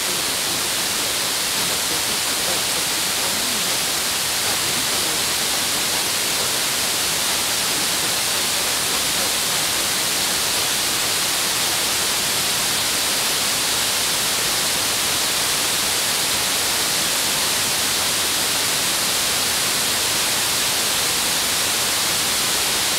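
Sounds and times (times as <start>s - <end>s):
radio static hiss: 0.0s - 22.9s.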